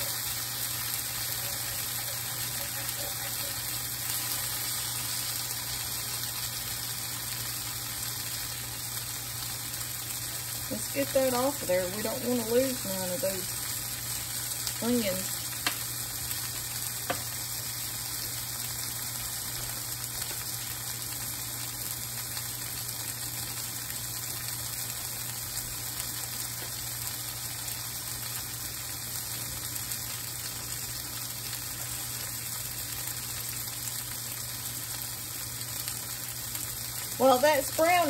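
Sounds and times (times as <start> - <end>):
vegetables sizzling in oil: 0.0 - 38.0.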